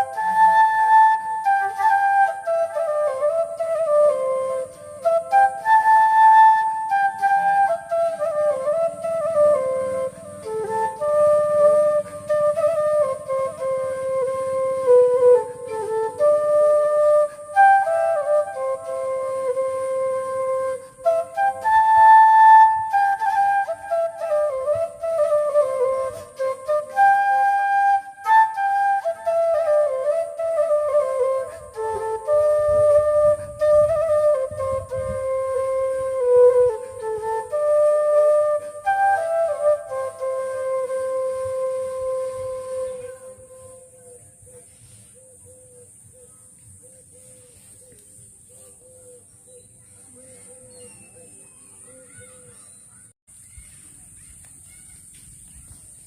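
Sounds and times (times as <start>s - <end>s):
bamboo flute melody: 0.0s - 56.0s.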